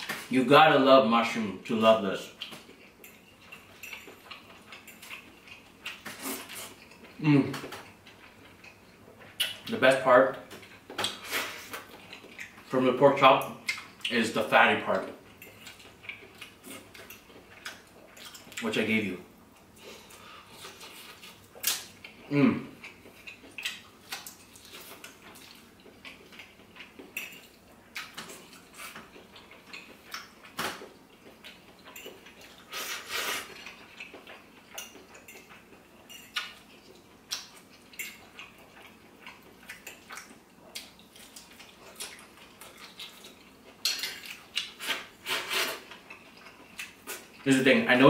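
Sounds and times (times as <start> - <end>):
chewing: 2.3 - 9.7, 10.4 - 12.7, 13.5 - 14.2, 15.0 - 18.7, 19.5 - 47.6.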